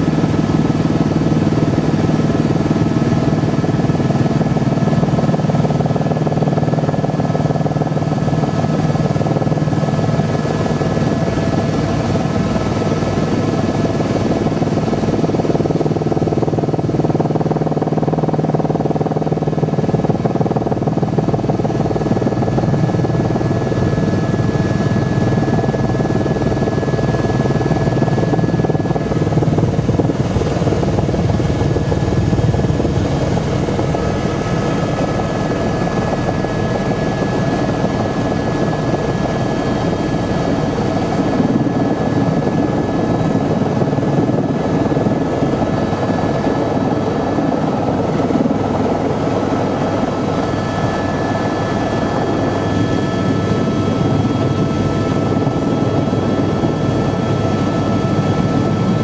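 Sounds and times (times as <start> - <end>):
helicopter engine whine: 0.0 - 59.0
helicopter rotor beat: 0.0 - 59.0.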